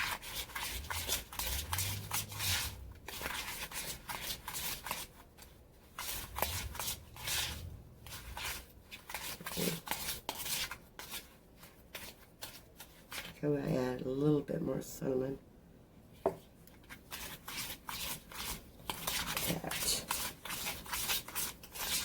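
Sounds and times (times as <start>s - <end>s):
utensil stirring and scraping bowl: 0.0s - 13.9s, 16.7s - 22.0s.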